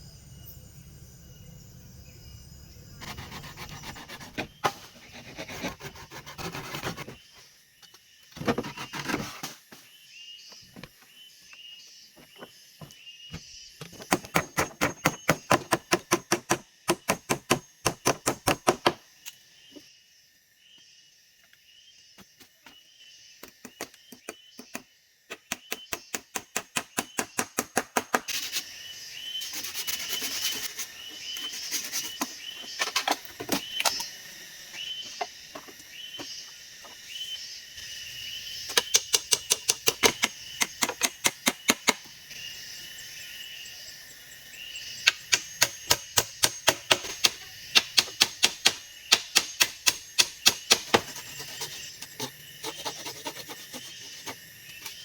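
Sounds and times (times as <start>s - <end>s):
forest insects chirring: 0.0s - 55.0s.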